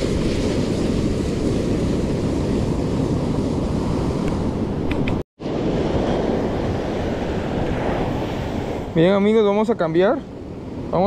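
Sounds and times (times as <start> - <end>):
ocean surf: 0.0 - 11.0
wind buffeting the microphone: 0.0 - 11.0.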